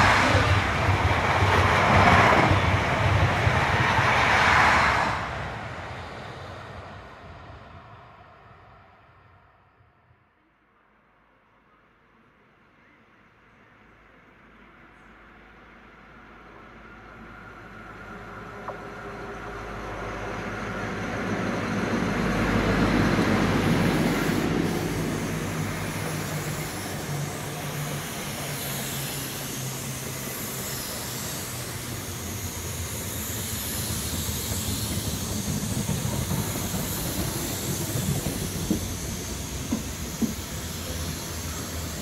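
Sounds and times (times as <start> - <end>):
train wheels on rails: 0.0 - 8.2, 15.1 - 42.0
diesel train engine passing: 0.0 - 11.3, 13.2 - 42.0.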